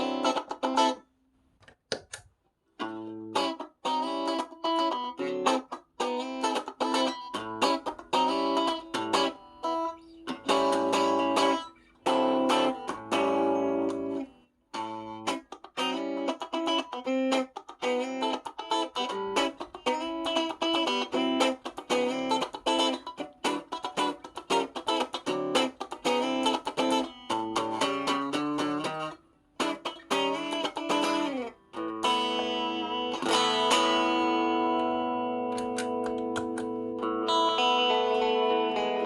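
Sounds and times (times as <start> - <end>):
clean electric guitar: 0.0 - 1.0, 2.8 - 39.0.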